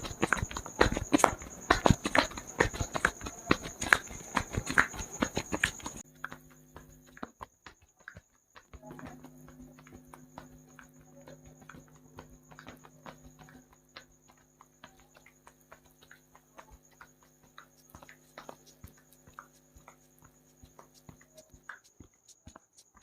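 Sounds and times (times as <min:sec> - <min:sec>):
hands tapping on scalp: 0:00.0 - 0:23.0.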